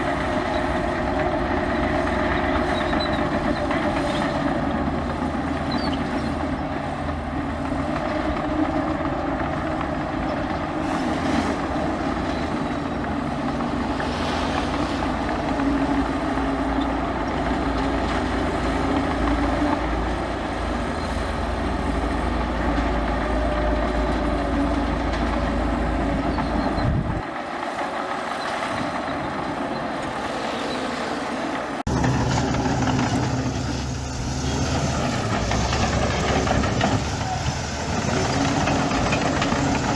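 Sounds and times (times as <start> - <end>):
diesel machinery rumbling: 0.0 - 39.9.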